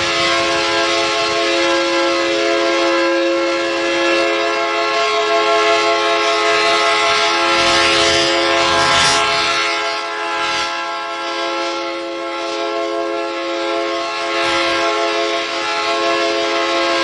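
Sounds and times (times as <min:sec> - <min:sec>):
alarm siren chord: 0:00.0 - 0:17.0.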